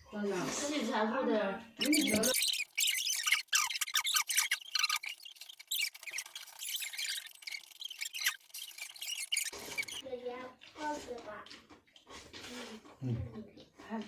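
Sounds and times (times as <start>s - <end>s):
wet chewing and slurping: 1.8s - 14.0s.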